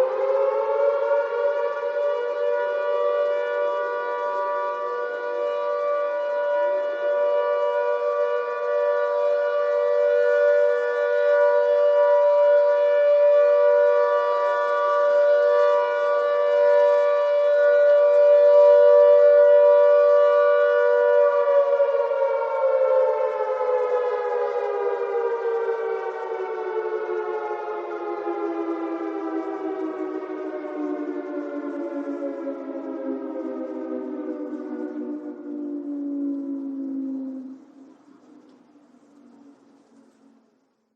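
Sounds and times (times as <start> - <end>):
air raid siren winding down: 0.0 - 40.7.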